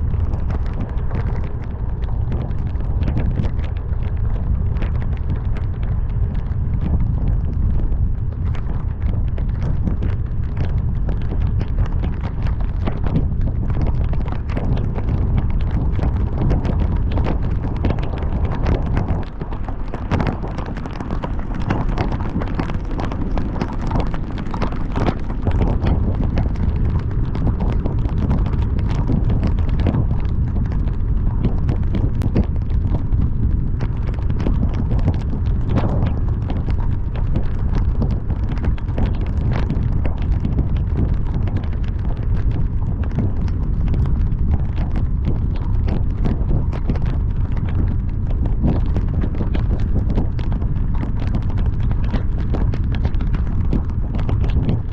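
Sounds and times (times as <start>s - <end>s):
heavy rain on car: 0.0s - 54.9s
wind and road noise: 0.0s - 54.9s.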